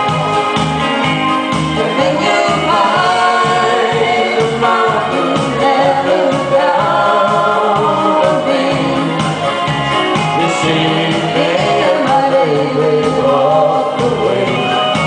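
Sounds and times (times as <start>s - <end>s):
backing music with bass beat: 0.0s - 15.0s
man and woman singing duet: 1.8s - 9.6s, 10.4s - 15.0s.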